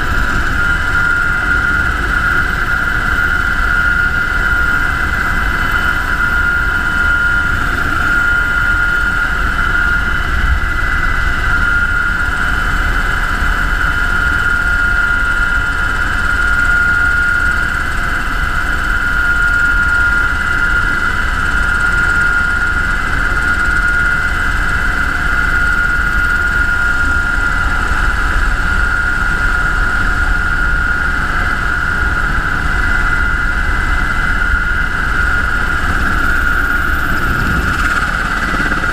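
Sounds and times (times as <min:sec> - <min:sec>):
helicopter engine whine and rotor: 0:00.0 - 0:38.9.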